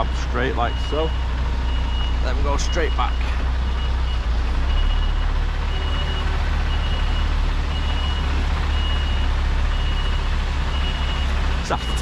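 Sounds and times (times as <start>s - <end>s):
diesel engine rumble: 0.0s - 12.0s
reversing alarm beeping: 0.0s - 12.0s.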